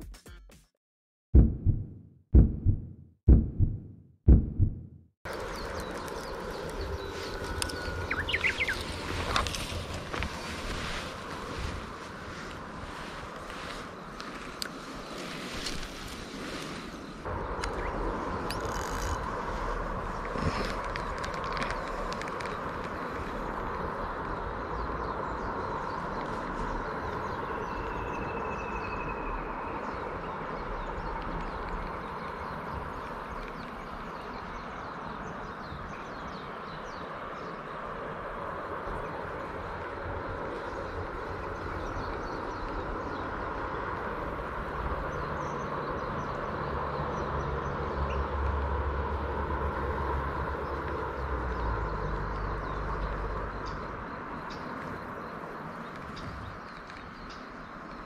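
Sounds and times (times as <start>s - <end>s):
wind rumble on microphone: 1.4s - 58.0s
outdoor background noise: 2.4s - 58.0s.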